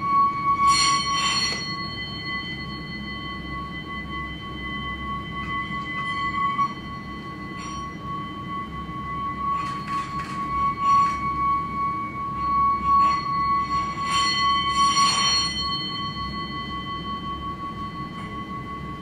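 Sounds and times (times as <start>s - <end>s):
metal singing bowl ringing: 0.0s - 19.0s.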